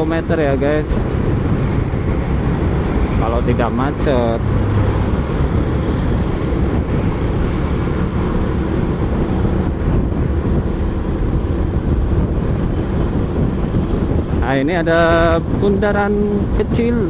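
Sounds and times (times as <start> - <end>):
motorcycle engine drone: 0.0 - 17.0
wind rushing over microphone: 0.0 - 17.0.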